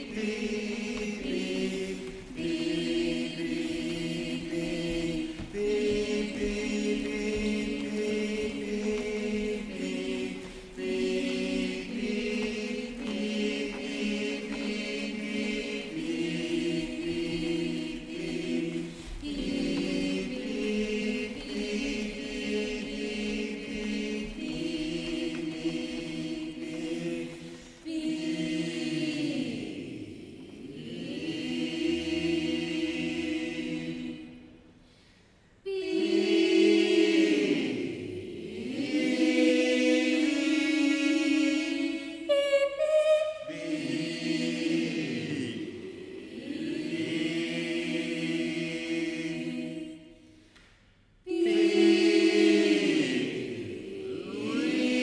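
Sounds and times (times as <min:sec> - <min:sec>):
a cappella choir singing chords: 0:00.0 - 0:55.0.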